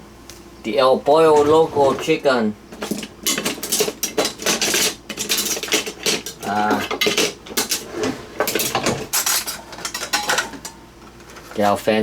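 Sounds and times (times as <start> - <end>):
dishes and utensils clattering: 1.3 - 11.6.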